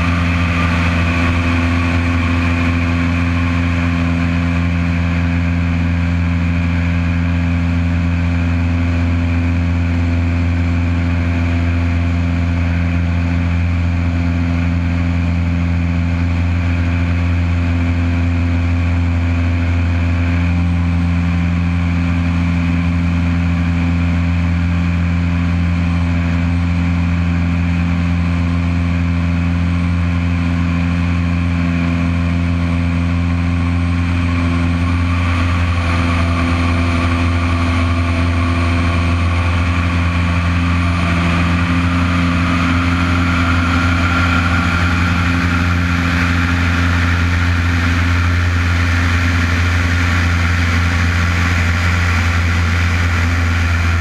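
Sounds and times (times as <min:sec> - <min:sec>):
plane engine and propeller: 0:00.0 - 0:54.0.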